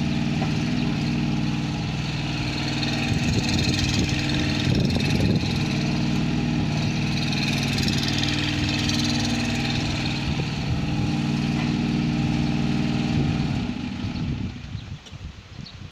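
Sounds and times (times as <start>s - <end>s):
excavator engine running: 0.0s - 14.7s
tracks moving on asphalt: 0.0s - 15.2s.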